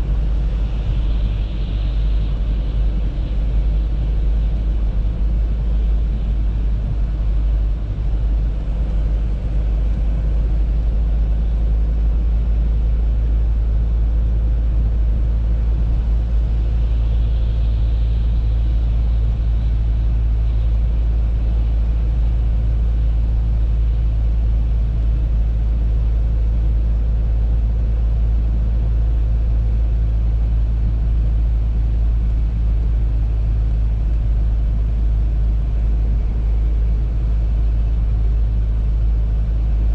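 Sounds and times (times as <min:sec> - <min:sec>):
car interior road rumble: 0:00.0 - 0:39.9.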